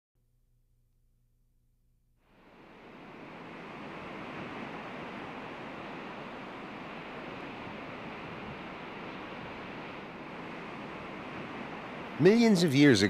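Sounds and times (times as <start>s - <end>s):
ocean surf breaking: 2.4s - 13.0s.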